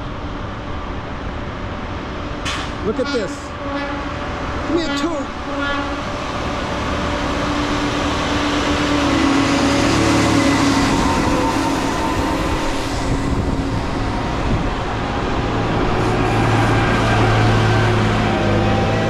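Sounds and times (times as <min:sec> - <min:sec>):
rail machine engines droning: 0:00.0 - 0:19.0
steel wheels rumbling on track: 0:01.5 - 0:19.0.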